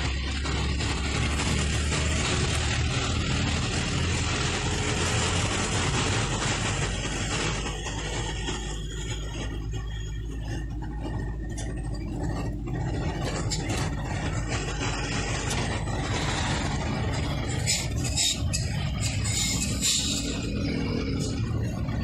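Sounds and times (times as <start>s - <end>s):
road noise inside cabin: 0.0s - 22.0s
vehicle engine running: 0.0s - 22.0s.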